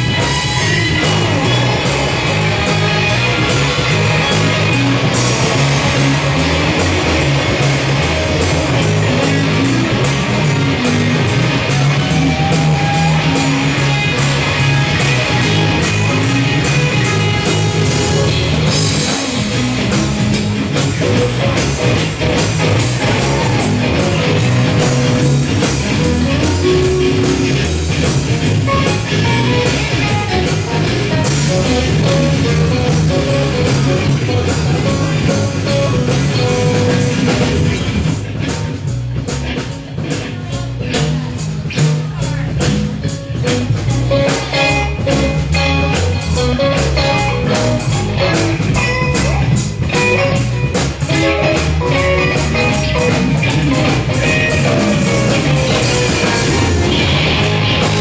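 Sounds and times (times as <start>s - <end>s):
rock music: 0.0s - 58.0s.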